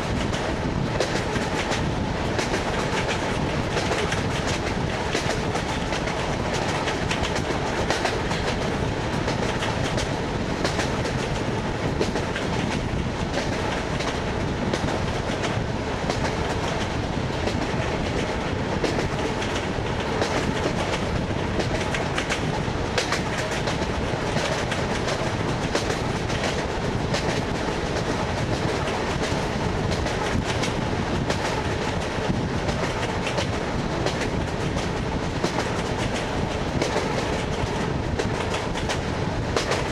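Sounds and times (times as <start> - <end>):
train running noise: 0.0 - 39.9
train wheels clattering over rail joints: 0.0 - 39.9.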